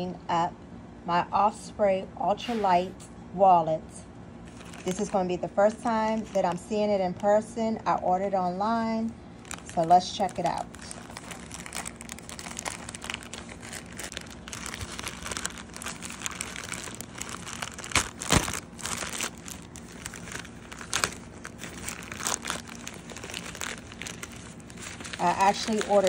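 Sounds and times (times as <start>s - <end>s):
plastic mailer bag crinkling: 4.4s - 26.0s.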